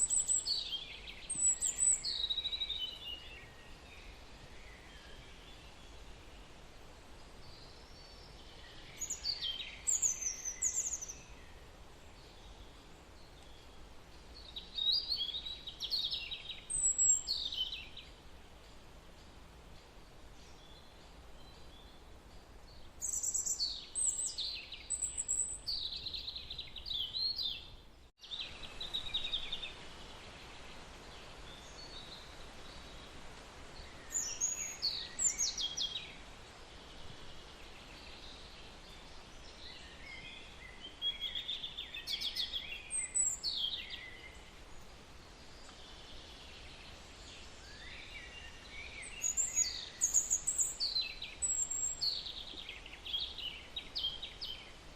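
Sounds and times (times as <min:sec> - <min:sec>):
birds chirping: 0:00.0 - 0:06.6, 0:07.3 - 0:54.9
faint background hiss: 0:00.0 - 0:54.9.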